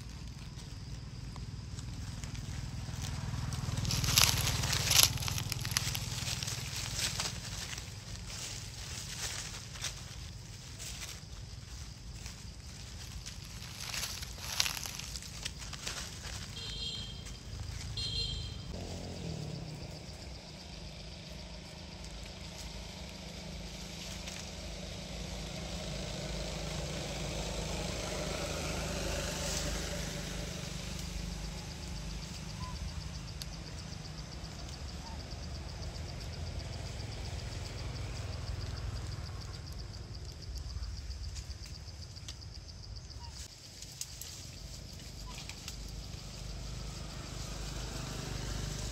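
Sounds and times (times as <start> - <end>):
vehicle engine rumble passing by: 0.0 - 48.9.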